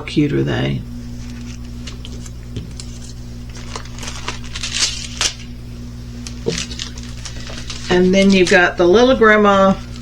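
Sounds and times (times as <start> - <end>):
steady low hum: 0.0 - 10.0
crinkling and rustling canvases: 1.2 - 5.5, 6.2 - 10.0.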